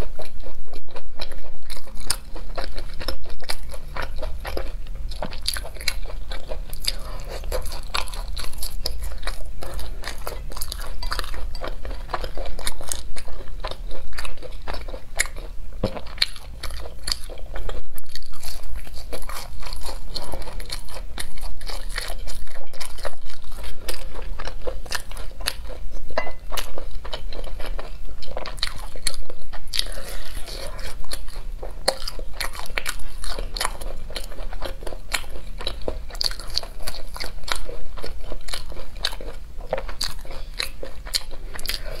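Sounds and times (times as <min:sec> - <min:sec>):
crunching and chewing food: 0:00.0 - 0:42.0.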